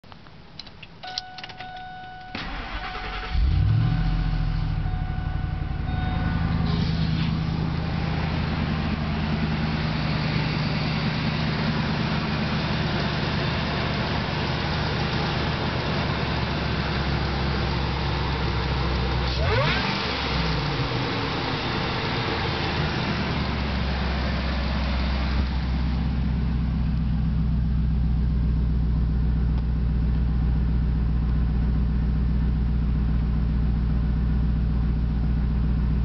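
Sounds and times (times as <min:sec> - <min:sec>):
car engine cranking and idling: 0:00.0 - 0:36.0.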